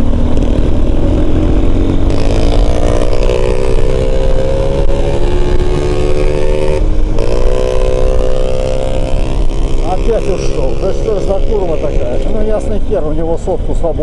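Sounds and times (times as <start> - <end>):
wind rumble on microphone: 0.0 - 12.6
motorcycle engine revving: 0.0 - 14.0.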